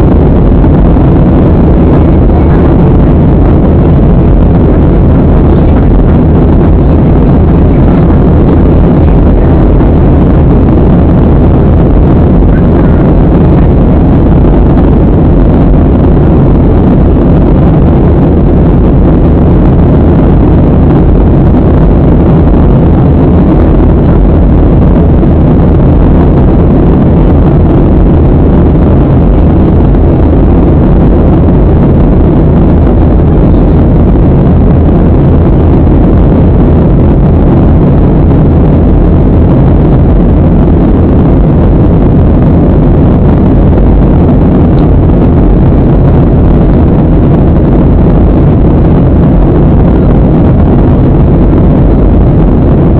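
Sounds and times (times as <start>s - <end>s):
airplane cabin engine rumble: 0.0s - 52.9s.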